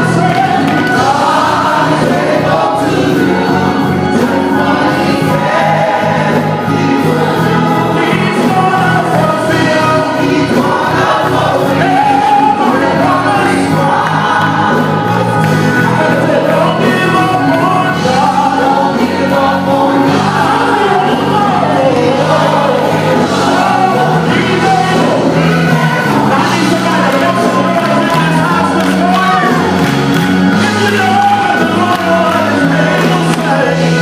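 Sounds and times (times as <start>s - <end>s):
gospel choir singing: 0.0s - 34.0s
instrumental accompaniment with bass: 0.0s - 34.0s.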